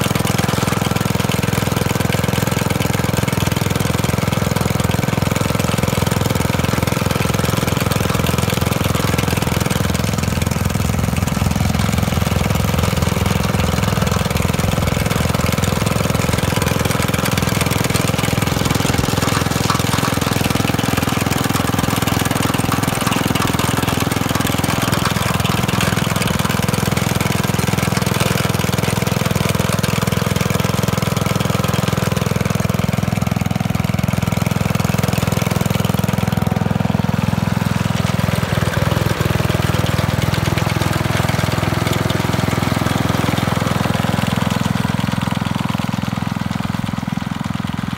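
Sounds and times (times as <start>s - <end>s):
mower engine running: 0.0s - 47.9s.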